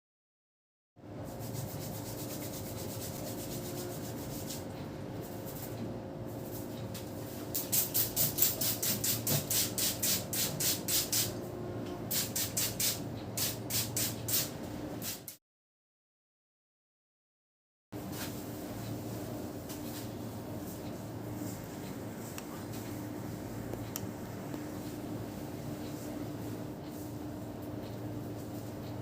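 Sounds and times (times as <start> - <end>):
room hum: 1.0 - 15.4, 18.0 - 29.0.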